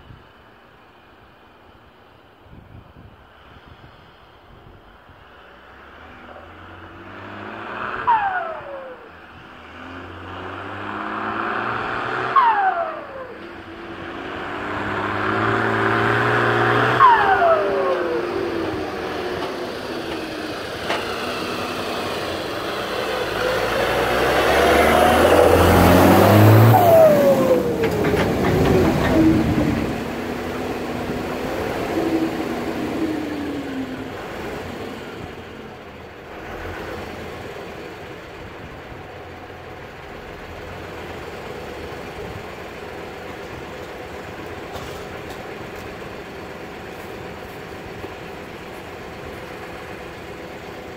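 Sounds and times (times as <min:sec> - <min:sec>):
tractor diesel engine passing by: 0:03.3 - 0:50.9.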